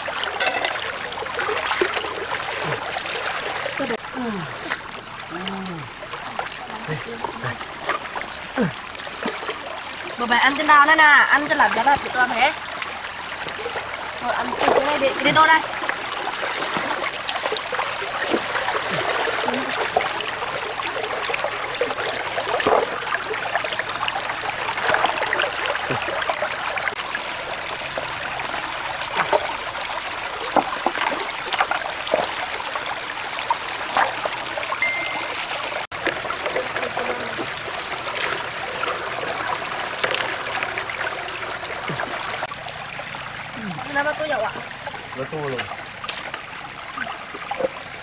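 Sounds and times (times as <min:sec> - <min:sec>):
splashes of people wading: 0:00.0 - 0:48.0
stream running over rocks: 0:00.0 - 0:48.0.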